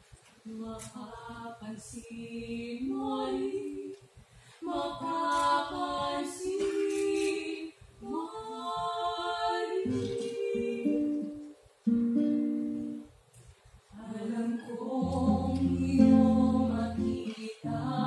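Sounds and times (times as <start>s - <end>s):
women singing in harmony: 0.5s - 4.0s, 4.6s - 11.5s, 13.9s - 18.0s.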